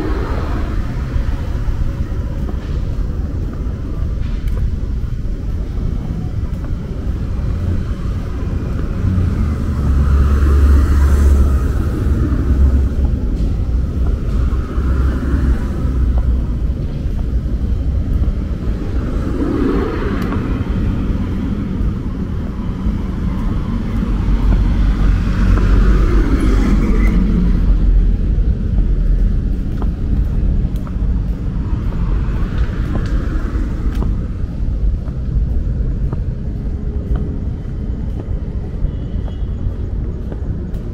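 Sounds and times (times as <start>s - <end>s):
passing cars rumbling: 0.0s - 40.9s.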